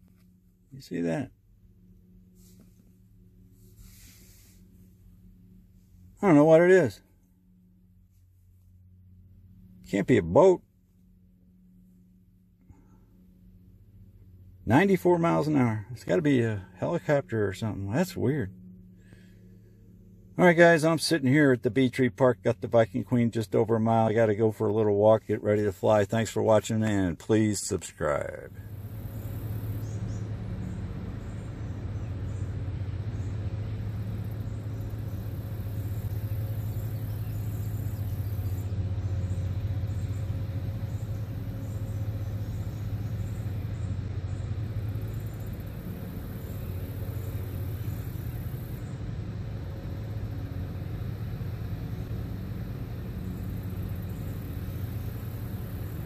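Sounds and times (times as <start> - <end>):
towboat diesel engines rumbling: 0.0 - 7.4, 9.0 - 11.0, 12.2 - 56.0.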